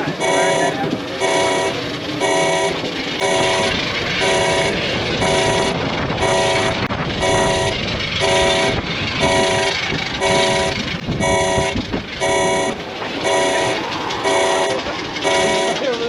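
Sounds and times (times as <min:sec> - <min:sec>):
continuous rushing noise: 0:00.0 - 0:16.0
pulsing alarm horn: 0:00.0 - 0:16.0.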